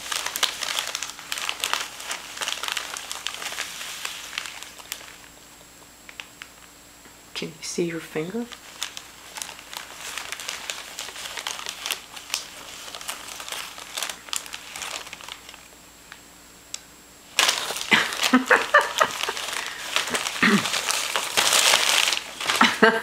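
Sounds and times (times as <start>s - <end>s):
paper rustling and crinkling: 0.0s - 5.4s, 8.4s - 16.2s, 17.3s - 23.0s.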